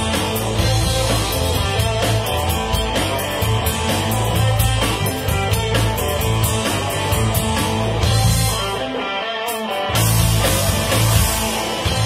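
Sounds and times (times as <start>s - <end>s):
heavy bass line: 0.0s - 9.0s, 9.9s - 12.0s
drums: 0.0s - 12.0s
electric guitars: 0.0s - 12.0s.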